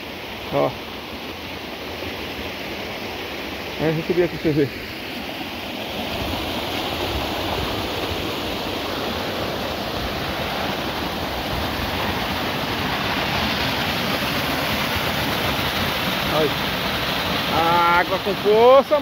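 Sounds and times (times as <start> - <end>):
rainwater runoff rushing: 0.0 - 19.0.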